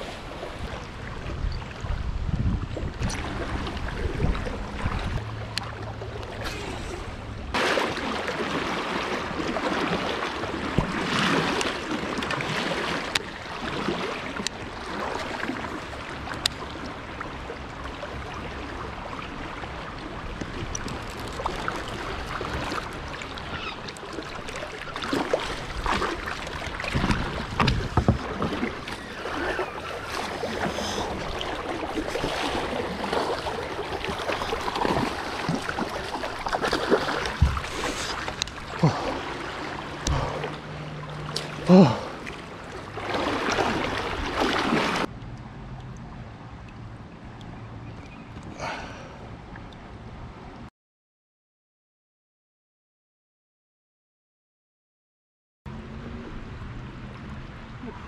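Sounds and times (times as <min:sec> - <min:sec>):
river water rushing and splashing: 0:00.0 - 0:47.4.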